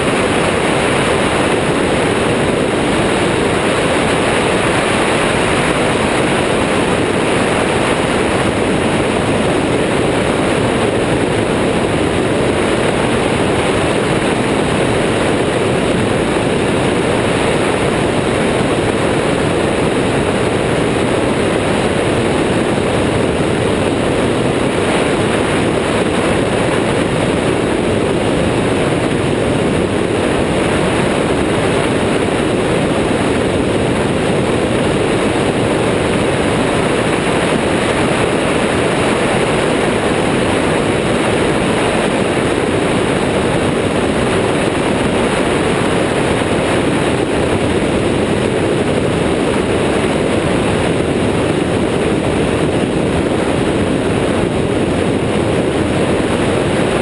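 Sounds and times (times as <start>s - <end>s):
aircraft engine and propeller: 0.0s - 57.0s
wind rushing over microphone: 0.0s - 57.0s.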